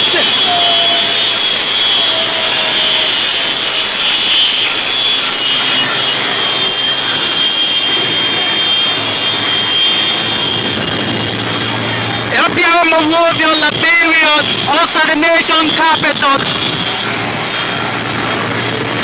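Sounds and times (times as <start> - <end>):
motorcycle engine: 0.0 - 14.9, 16.2 - 19.0.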